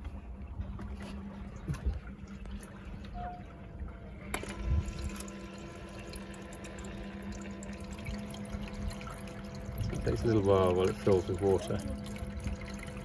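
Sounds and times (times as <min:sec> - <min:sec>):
water pump humming: 0:00.0 - 0:13.0
water trickling: 0:01.0 - 0:13.0.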